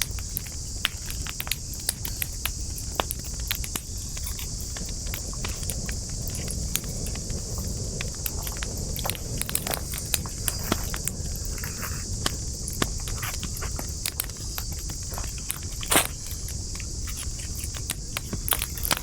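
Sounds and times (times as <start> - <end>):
campfire crackling and popping: 0.0 - 19.0
high-pitched insect chorus: 0.0 - 19.0
low rumble of flame: 0.0 - 19.0.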